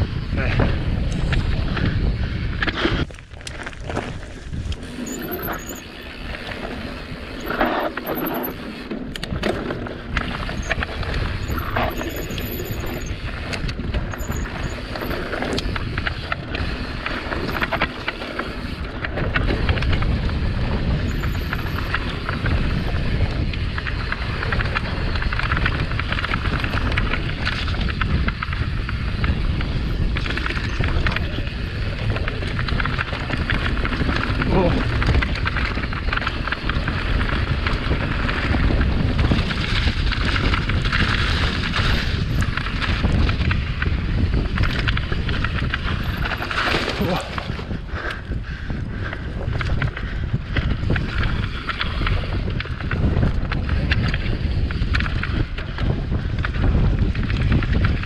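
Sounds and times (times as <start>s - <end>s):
bike rattling and knocking: 0.0s - 58.0s
tyres rolling on dirt trail: 0.0s - 58.0s
wind buffeting microphone: 0.0s - 58.0s.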